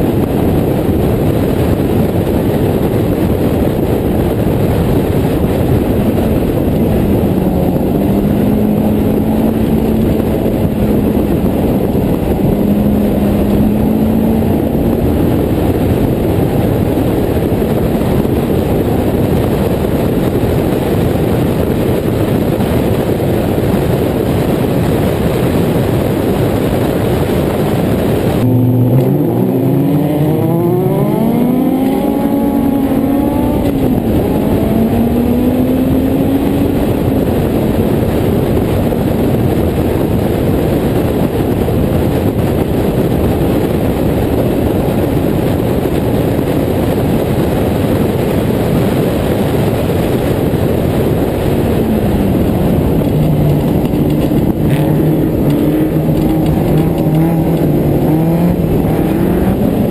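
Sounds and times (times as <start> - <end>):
car engine running at speed: 0.0 - 59.9
rushing wind noise: 0.0 - 59.9.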